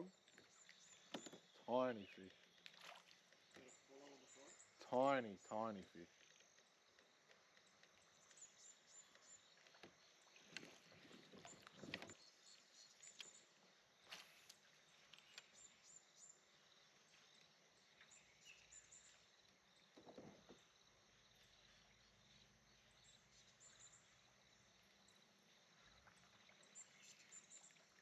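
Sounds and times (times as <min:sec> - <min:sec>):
faint water splashes: 0:00.0 - 0:18.1, 0:23.3 - 0:28.0.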